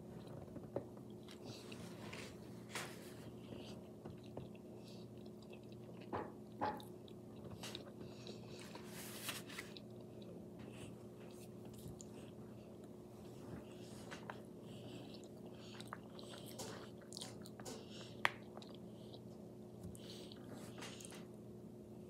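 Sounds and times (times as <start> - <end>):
faint steady hum: 0.0 - 22.0
person chewing food: 0.1 - 8.9, 9.6 - 21.3.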